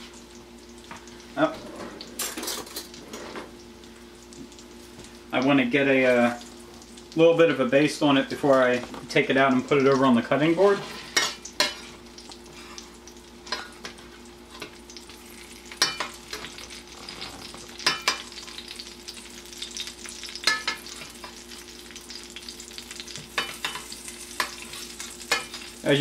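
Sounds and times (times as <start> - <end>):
fish sizzling in a pan: 0.0 - 26.0.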